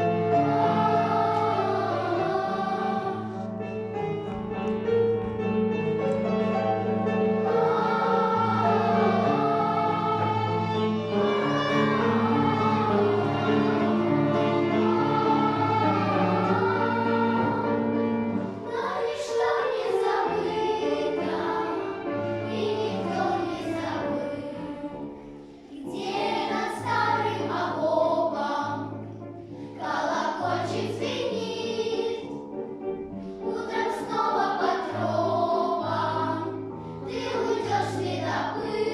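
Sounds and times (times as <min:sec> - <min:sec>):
choir singing: 0:00.0 - 0:03.7, 0:07.2 - 0:32.4, 0:33.4 - 0:38.9.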